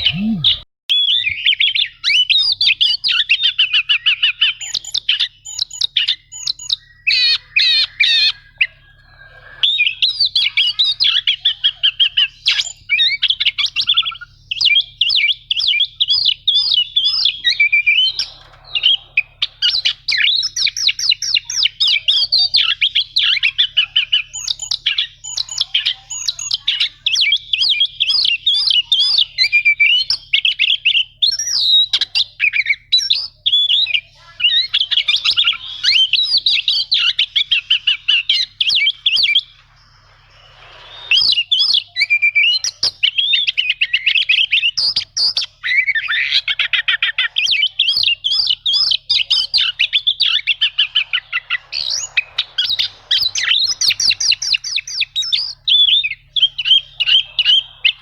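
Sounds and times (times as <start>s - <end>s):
magpie-robin singing: 0.0s - 58.0s.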